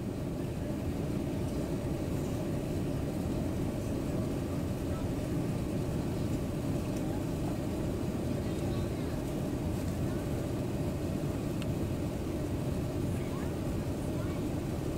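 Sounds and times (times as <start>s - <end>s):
airplane cabin engine rumble: 0.0s - 14.9s.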